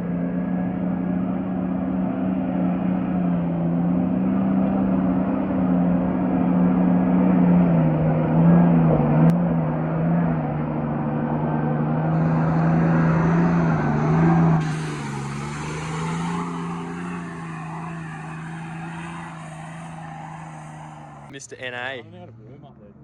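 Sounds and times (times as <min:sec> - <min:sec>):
engine droning under load: 0:00.0 - 0:23.0
rough tyre noise: 0:00.0 - 0:23.0.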